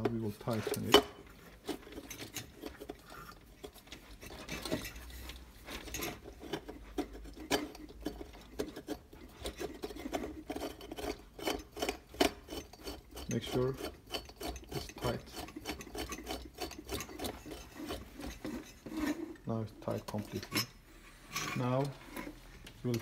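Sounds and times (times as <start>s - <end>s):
metal pipe scraping in threads: 0.0s - 23.0s.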